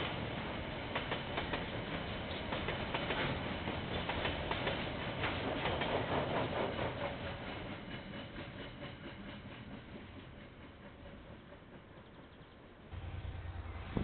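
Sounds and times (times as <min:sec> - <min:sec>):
train rumble: 0:00.0 - 0:14.0
train wheels clicking over rail joints: 0:00.0 - 0:14.0.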